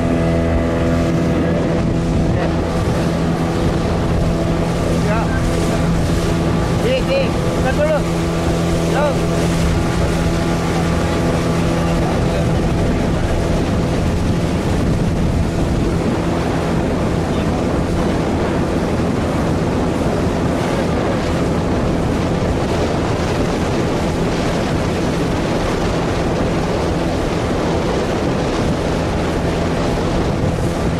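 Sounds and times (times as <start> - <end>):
speedboat engine running: 0.0 - 30.9
water rushing past hull: 0.0 - 30.9
wind buffeting microphone: 0.0 - 30.9.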